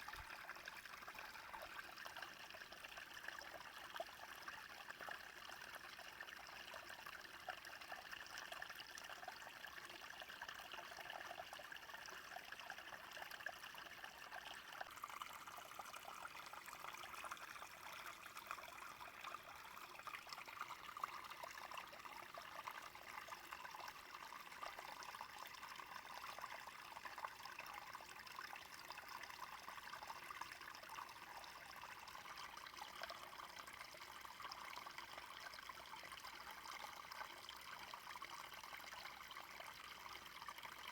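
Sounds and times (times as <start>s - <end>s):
brook trickling: 0.0s - 40.9s.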